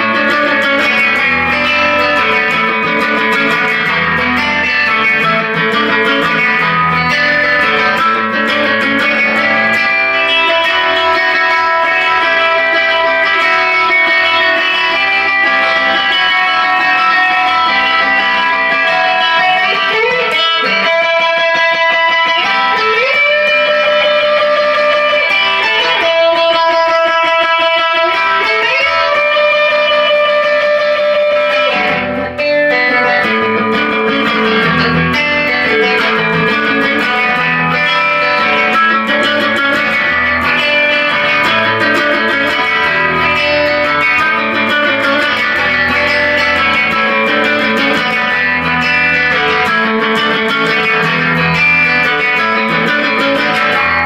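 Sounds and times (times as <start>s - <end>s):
electric guitar picked: 0.0s - 54.0s.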